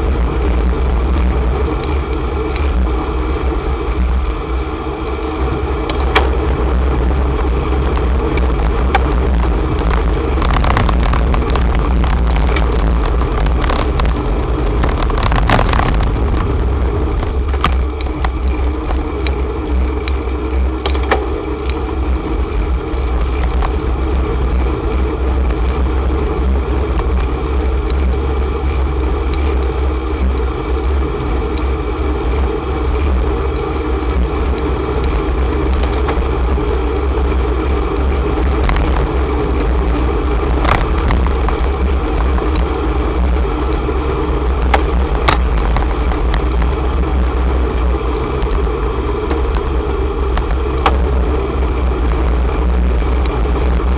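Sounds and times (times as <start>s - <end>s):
bicycle clicks and rattles: 0.0s - 53.9s
car engines and tyres humming: 0.0s - 53.9s
wind rumble on microphone: 0.0s - 53.9s.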